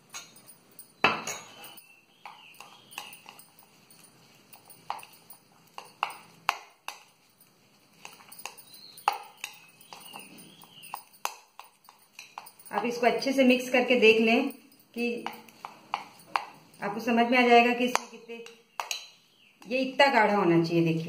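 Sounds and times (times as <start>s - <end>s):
spoon scraping glass bowl: 0.0s - 19.2s.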